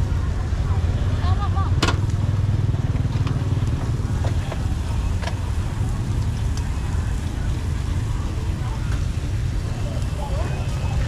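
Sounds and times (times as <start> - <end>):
traffic engine rumble: 0.0 - 11.0.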